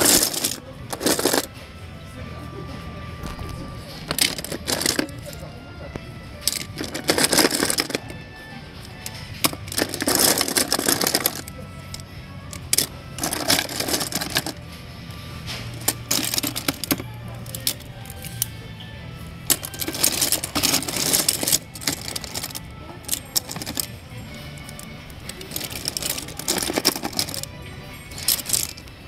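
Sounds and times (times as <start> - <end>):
plastic toys clattering in a bin: 0.0 - 1.6, 3.2 - 5.5, 6.4 - 8.2, 8.8 - 14.7, 15.4 - 18.5, 19.4 - 28.9.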